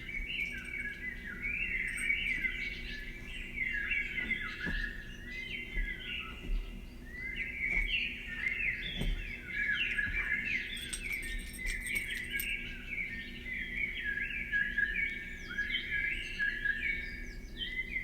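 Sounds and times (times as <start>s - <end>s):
faint low hum: 0.0s - 14.9s
small birds chirping: 0.0s - 18.0s.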